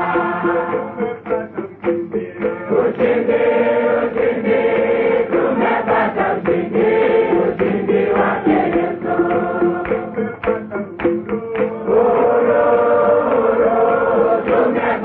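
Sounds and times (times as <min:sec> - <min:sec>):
choir singing a hymn: 0:00.0 - 0:10.6, 0:11.5 - 0:15.0.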